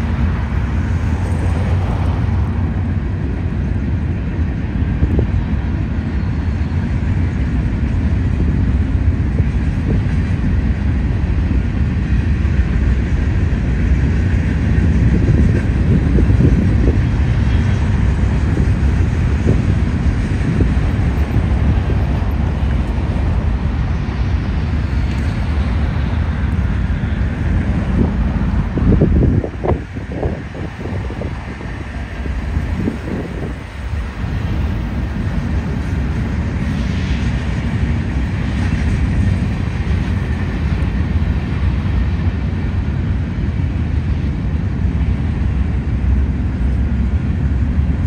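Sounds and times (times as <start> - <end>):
freight train wheels rumbling: 0.0 - 48.0
train clanks: 0.0 - 48.0.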